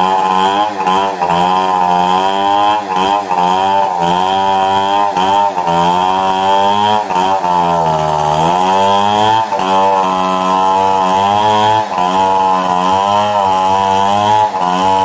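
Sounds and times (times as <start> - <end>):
chainsaw cutting a tree: 0.0 - 15.0.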